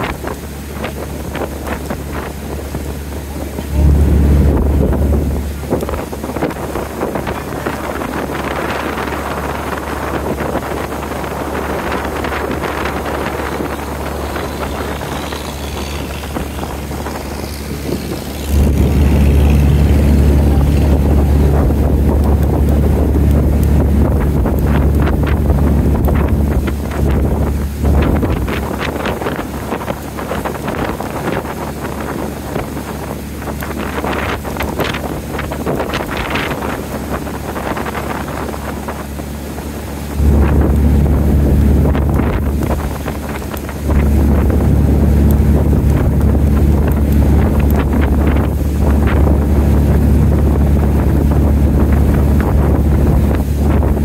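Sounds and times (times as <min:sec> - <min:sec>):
boat engine humming: 0:00.0 - 0:54.0
water rushing along hull: 0:00.0 - 0:54.0
wind buffeting microphone: 0:00.0 - 0:54.0.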